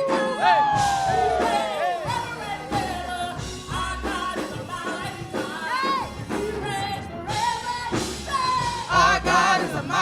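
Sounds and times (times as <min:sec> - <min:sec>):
church band playing: 0:00.0 - 0:10.0
people singing: 0:00.0 - 0:10.0
steady drum beat: 0:00.0 - 0:10.0.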